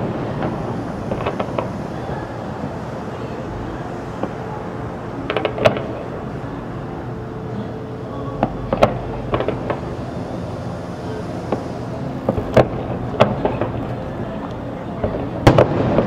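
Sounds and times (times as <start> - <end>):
distant fireworks bangs and crackles: 0.0 - 6.5, 8.4 - 14.3, 15.0 - 16.0
low background hum: 0.0 - 16.0.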